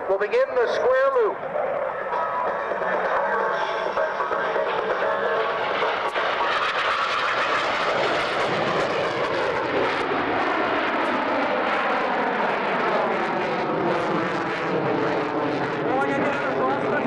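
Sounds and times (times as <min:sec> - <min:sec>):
jet engines roaring: 0:00.0 - 0:17.0
whining jet tone: 0:00.0 - 0:17.0.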